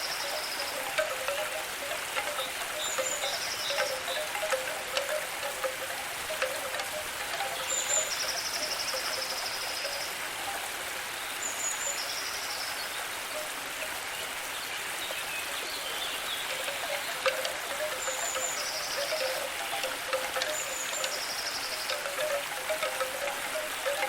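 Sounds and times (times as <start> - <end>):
steady hiss of water: 0.0 - 24.0.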